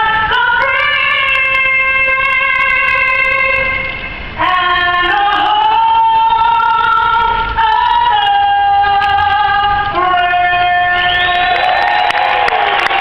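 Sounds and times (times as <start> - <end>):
woman singing over loudspeakers: 0.0 - 13.0.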